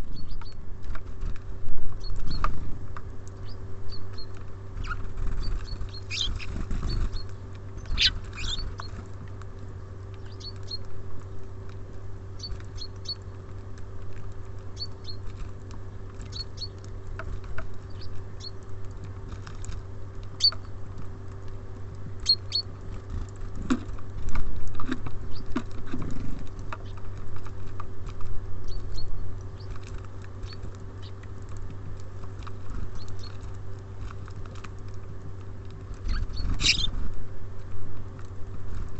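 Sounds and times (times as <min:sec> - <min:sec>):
small birds chirping: 0:00.0 - 0:11.3, 0:12.2 - 0:35.2, 0:35.8 - 0:37.1
steady low hum: 0:00.0 - 0:38.9
pecking and scrabbling on feeder: 0:00.1 - 0:38.9.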